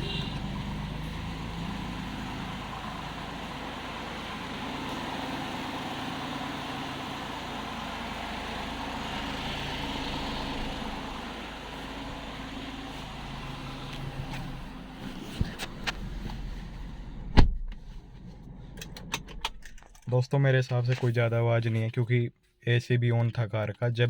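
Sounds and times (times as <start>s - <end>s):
car engine idling: 0.0s - 20.1s.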